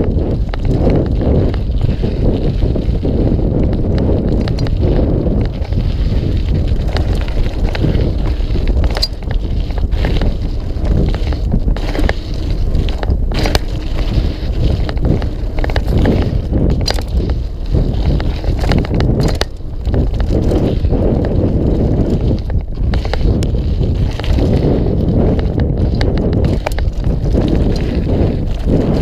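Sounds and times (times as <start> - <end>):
bike rattling and knocking: 0.0 - 29.0
tyres rumbling on dirt trail: 0.0 - 29.0
wind on microphone: 0.0 - 29.0.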